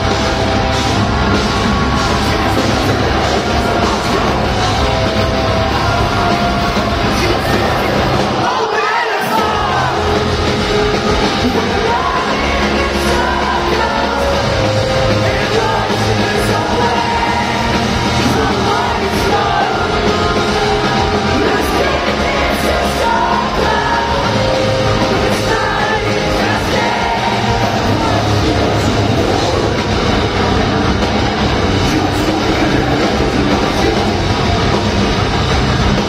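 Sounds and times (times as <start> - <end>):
electric bass: 0.0 - 8.4, 9.4 - 36.0
electric guitar: 0.0 - 8.6, 9.4 - 36.0
drums: 0.0 - 36.0
person singing: 1.8 - 30.6.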